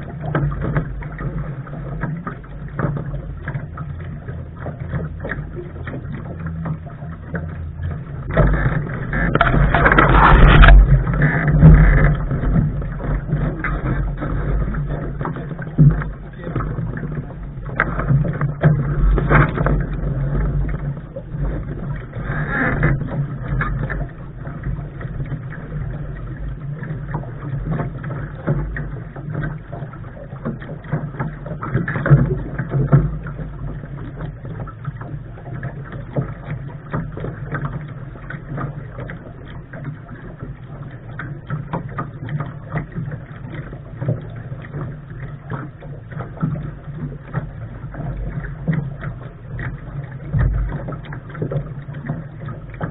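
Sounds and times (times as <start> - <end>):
water rushing along hull: 0.0 - 52.9
wind rumbling on microphone: 0.0 - 52.9.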